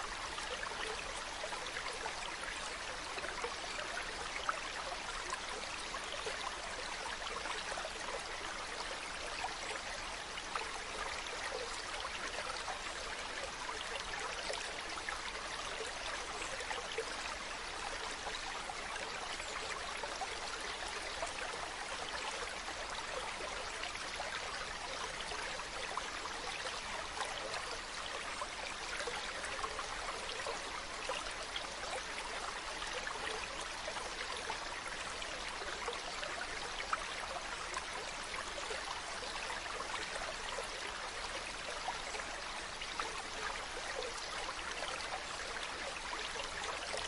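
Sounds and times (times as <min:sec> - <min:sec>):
stream babbling: 0:00.0 - 0:47.0.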